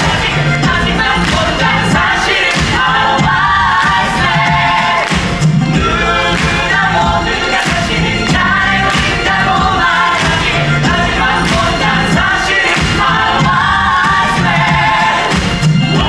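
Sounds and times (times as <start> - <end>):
band with bass and beat: 0.0 - 16.0
several voices singing: 0.0 - 16.0.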